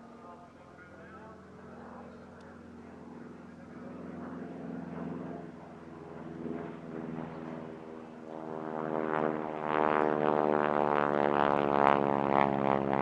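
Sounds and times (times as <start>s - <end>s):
propeller plane droning: 0.0s - 13.0s.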